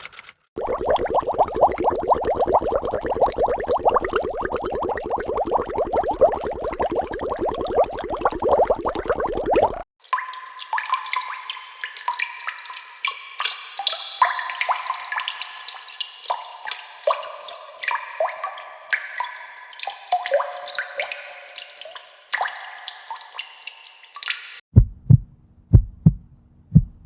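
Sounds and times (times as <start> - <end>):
water drops dripping: 0.6 - 24.6.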